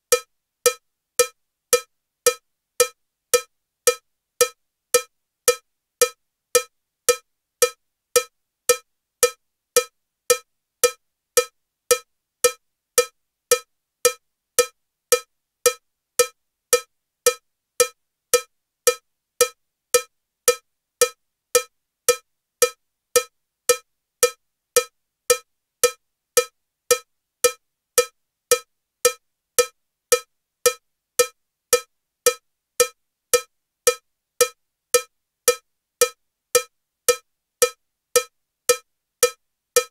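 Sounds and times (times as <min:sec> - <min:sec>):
cowbell metronome ticking: 0:00.1 - 0:39.9.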